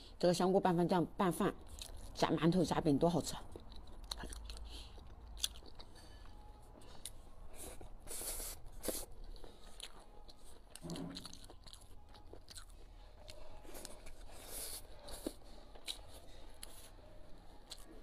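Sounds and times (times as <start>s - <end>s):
close chewing with crunches: 3.4s - 18.0s.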